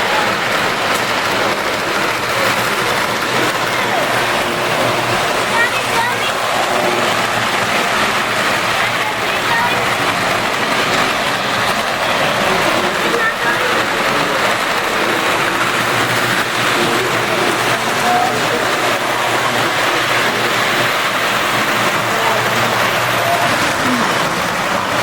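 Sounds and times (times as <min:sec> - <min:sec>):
crowd chatter: 0:00.0 - 0:25.0
model trains running: 0:00.0 - 0:25.0.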